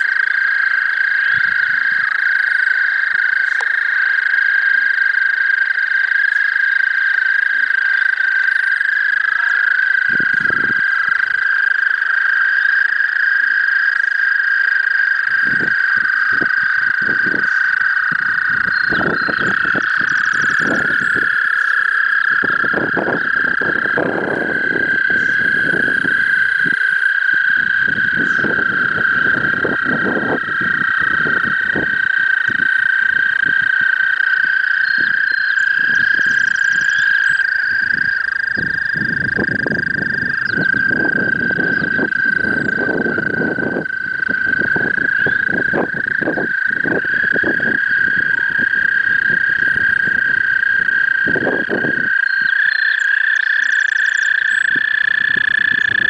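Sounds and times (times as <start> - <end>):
toads trilling: 0.0 - 56.0.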